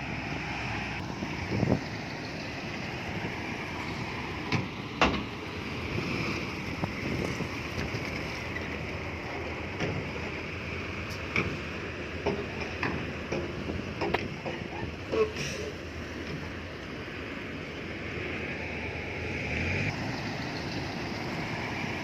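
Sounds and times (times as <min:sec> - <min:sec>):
heavy machinery engine drone: 0:00.0 - 0:22.0.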